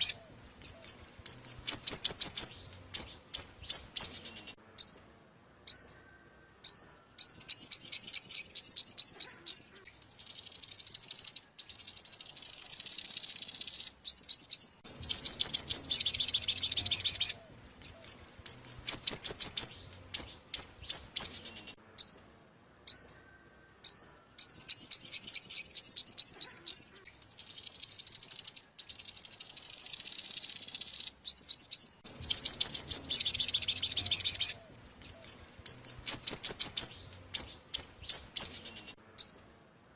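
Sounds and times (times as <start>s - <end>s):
sunbird chirps and trills: 0.0s - 39.7s.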